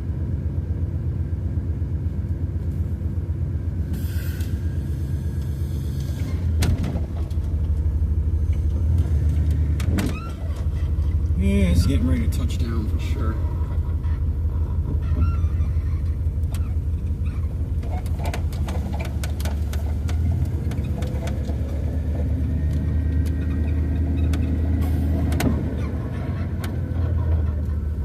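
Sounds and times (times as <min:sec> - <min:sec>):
van engine and road noise: 0:00.0 - 0:28.0.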